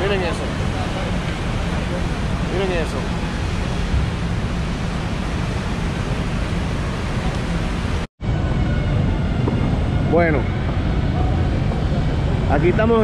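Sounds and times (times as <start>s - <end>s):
factory machinery hiss and rumble: 0.0s - 13.0s.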